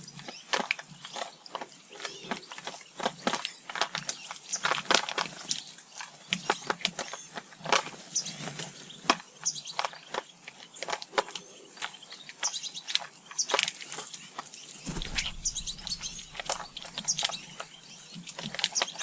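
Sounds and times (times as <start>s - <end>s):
birds chirping: 0.0s - 4.7s, 8.1s - 19.0s.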